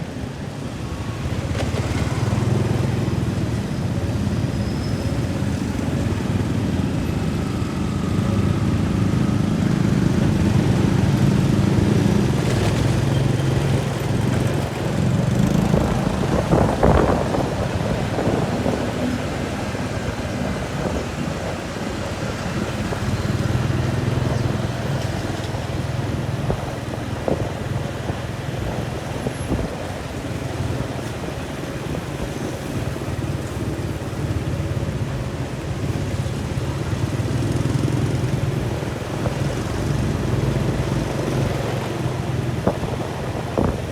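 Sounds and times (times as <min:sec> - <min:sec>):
engine running: 0:05.4 - 0:43.9.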